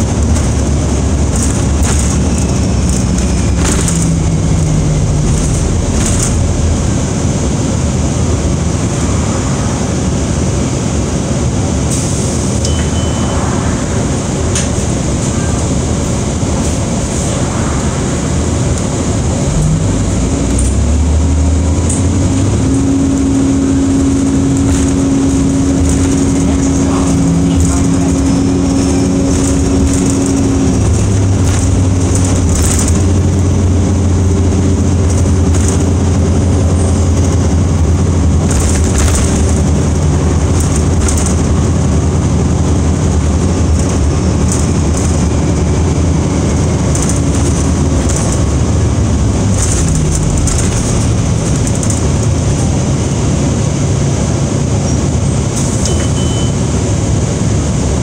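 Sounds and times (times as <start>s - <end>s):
bus engine hum: 0.0s - 58.0s
road noise: 0.0s - 58.0s.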